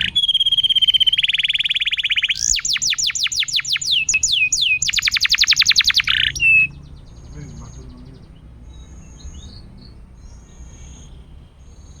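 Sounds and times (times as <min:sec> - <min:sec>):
canary trilling: 0:00.0 - 0:12.0
low background hum: 0:00.0 - 0:12.0.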